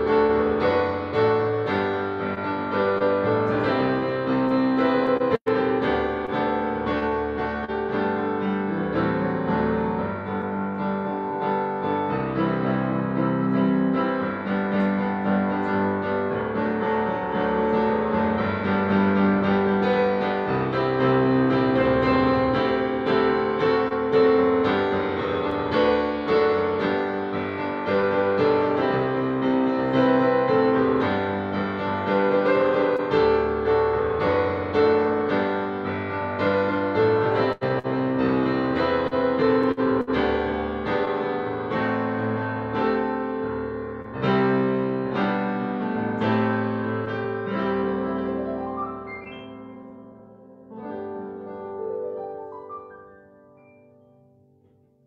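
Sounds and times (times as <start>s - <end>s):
solo piano chords: 0.0s - 55.0s.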